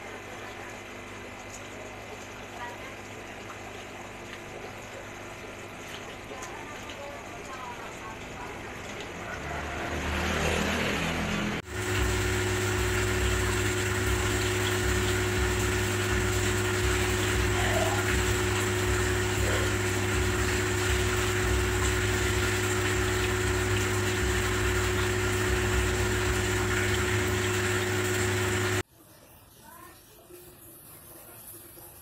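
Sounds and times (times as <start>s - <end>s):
mechanical hum: 0.0s - 29.5s.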